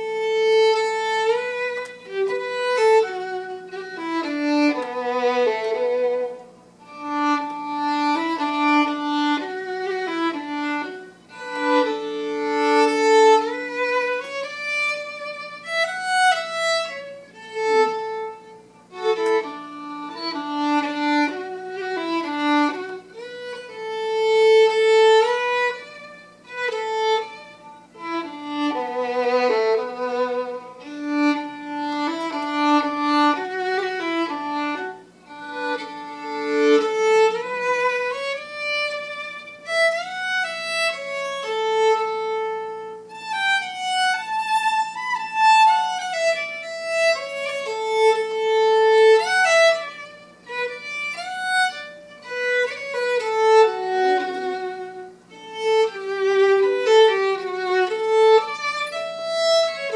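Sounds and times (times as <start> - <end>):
solo fiddle playing slow tune: 0.0 - 59.9.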